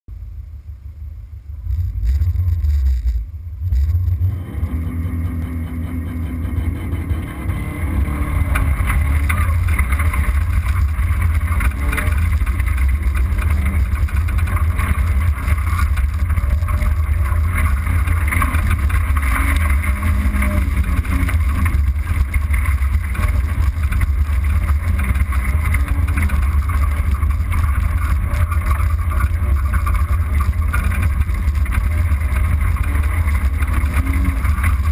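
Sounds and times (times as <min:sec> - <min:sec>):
rally car engine under load: 0:00.0 - 0:34.9
tyre and dirt noise: 0:00.2 - 0:34.9
wind rumble on microphone: 0:00.2 - 0:34.9.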